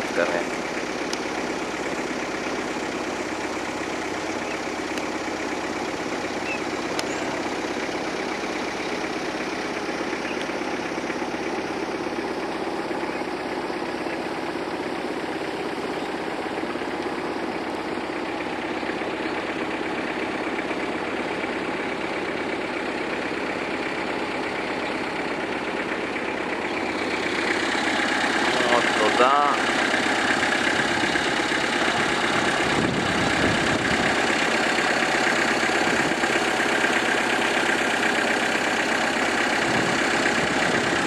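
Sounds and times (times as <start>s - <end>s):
boat motor droning: 0.0s - 41.0s.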